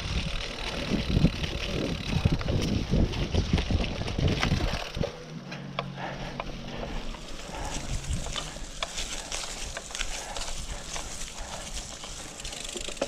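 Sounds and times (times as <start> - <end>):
wind rumble on microphone: 0.0 - 5.2, 6.8 - 12.3
bike tyres rolling over leaves: 0.0 - 13.0.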